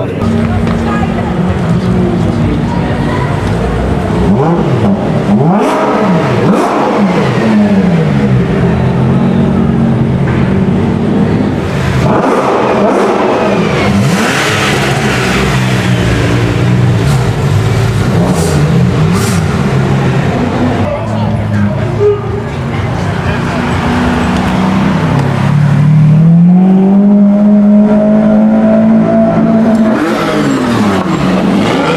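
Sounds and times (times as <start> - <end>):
car engines revving: 0.0 - 31.9
cars idling: 0.0 - 31.9.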